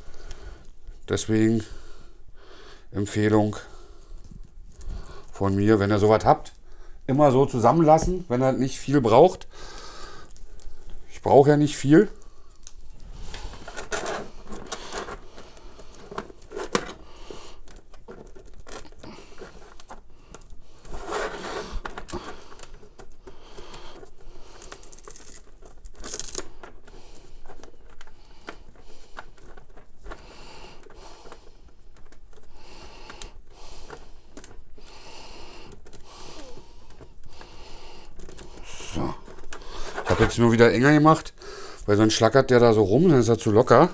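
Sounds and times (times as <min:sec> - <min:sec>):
cable rustling and scraping: 0:03.1 - 0:43.9.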